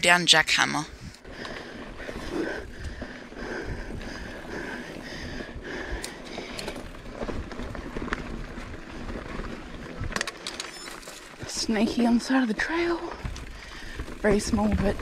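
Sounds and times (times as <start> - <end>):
bike tyres on dirt: 0.8 - 15.0.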